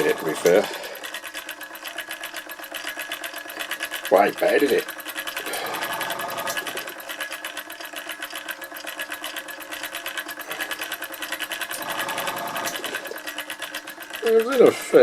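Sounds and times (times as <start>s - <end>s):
model steam engine ticking chatter: 0.0s - 15.0s.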